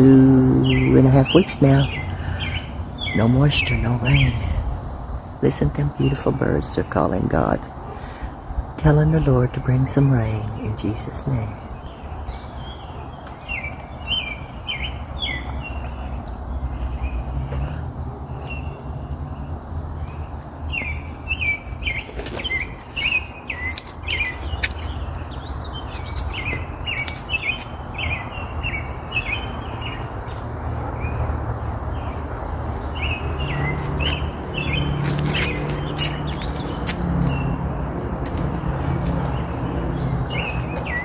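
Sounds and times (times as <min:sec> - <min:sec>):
small songbirds chirping: 0:00.0 - 0:41.0.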